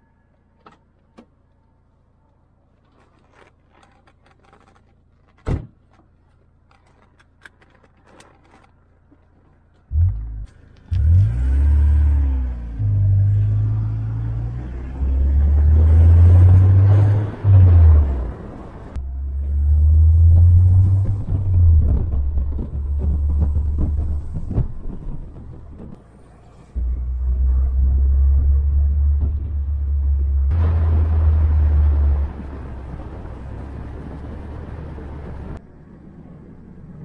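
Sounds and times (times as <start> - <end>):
road and wind noise: 0.0 - 37.0
car engine driving: 0.4 - 37.0.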